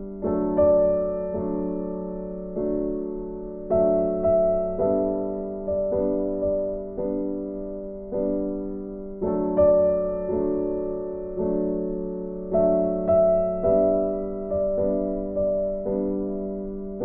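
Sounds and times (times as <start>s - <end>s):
slow gentle piano chords: 0.0s - 17.0s.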